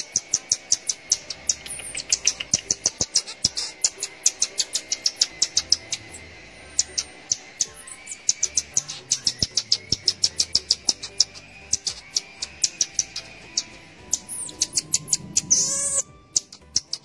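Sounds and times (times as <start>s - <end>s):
high-pitched chirps: 0.0s - 17.0s.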